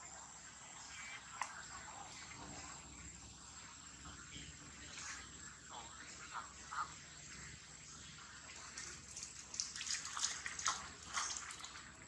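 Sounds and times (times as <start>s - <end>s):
light water splashes: 0.0s - 12.0s.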